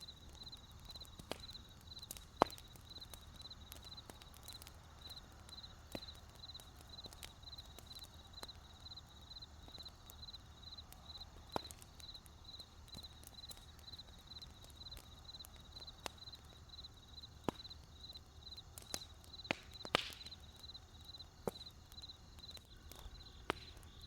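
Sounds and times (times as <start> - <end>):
campfire wood crackling: 0.0 - 24.0
cricket chirping: 0.0 - 24.0.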